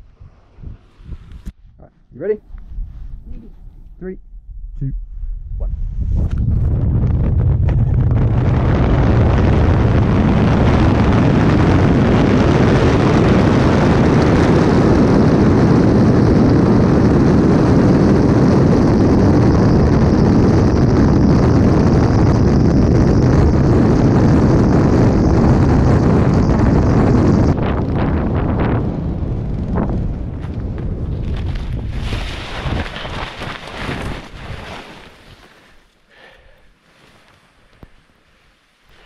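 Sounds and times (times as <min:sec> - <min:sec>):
wind rushing over microphone: 0:00.0 - 0:35.4.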